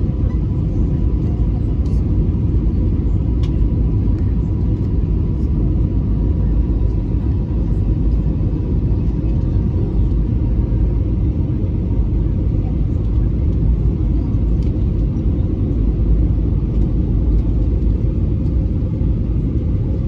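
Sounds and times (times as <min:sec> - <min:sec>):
airplane cabin engine roar: 0:00.0 - 0:20.0.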